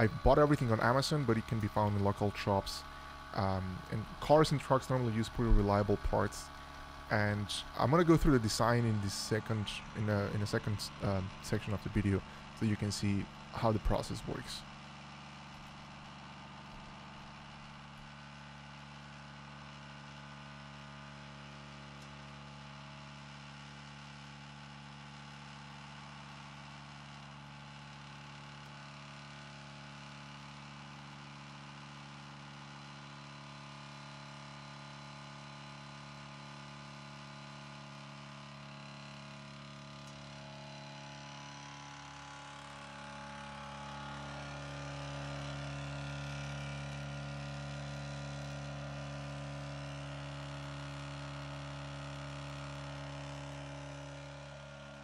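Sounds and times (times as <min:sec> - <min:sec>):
electric air compressor humming: 0:00.0 - 0:55.0.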